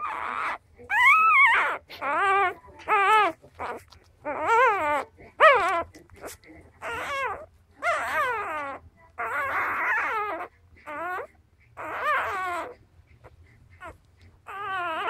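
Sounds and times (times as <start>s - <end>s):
puppy crying in squeals: 0.0s - 5.9s, 6.8s - 12.8s, 13.8s - 15.0s.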